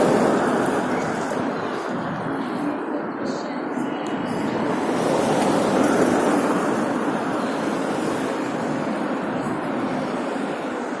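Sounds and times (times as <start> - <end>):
rushing road traffic noise: 0.0 - 11.0.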